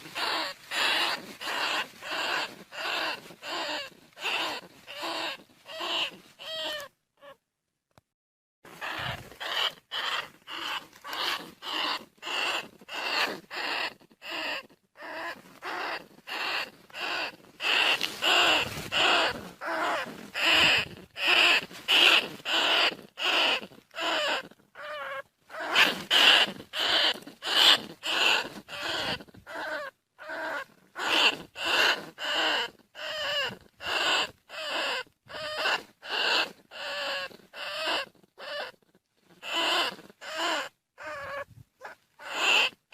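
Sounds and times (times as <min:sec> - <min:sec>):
rat squeaking: 0:00.0 - 0:07.4, 0:08.7 - 0:42.9.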